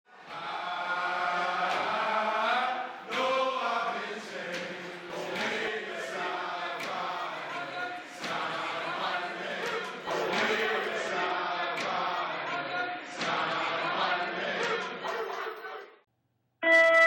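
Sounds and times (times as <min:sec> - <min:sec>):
voices chanting in unison: 0:00.1 - 0:16.0.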